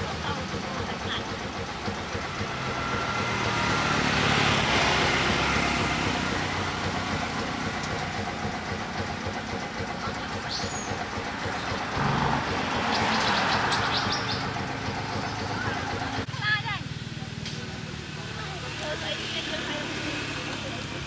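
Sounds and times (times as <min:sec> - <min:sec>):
low engine hum: 0:00.0 - 0:21.0
outdoor noise: 0:00.0 - 0:21.0.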